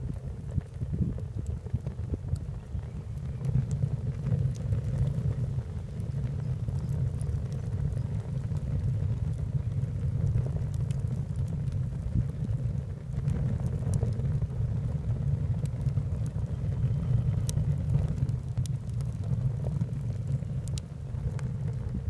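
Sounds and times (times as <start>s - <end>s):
wood crackling and popping: 0.0s - 22.0s
wood fire rumbling: 0.0s - 22.0s.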